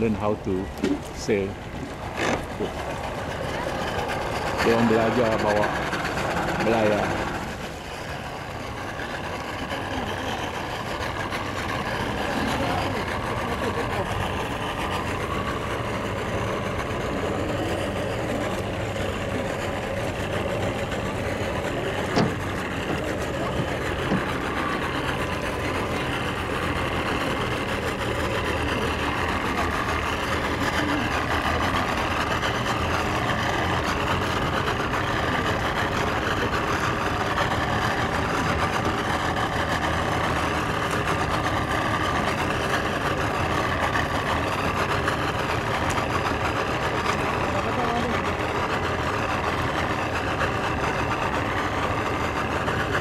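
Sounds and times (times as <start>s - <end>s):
motorboat engine idling: 0.0s - 53.0s.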